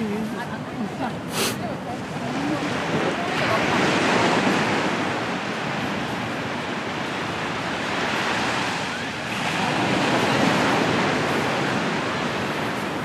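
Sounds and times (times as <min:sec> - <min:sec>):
sea surf breaking on shore: 0:00.0 - 0:13.0.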